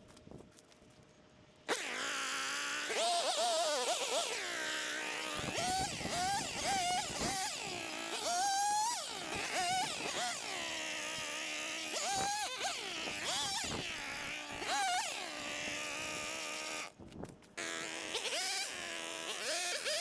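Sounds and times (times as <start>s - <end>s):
two-stroke cutting tool revving: 1.7s - 17.0s, 17.6s - 20.0s.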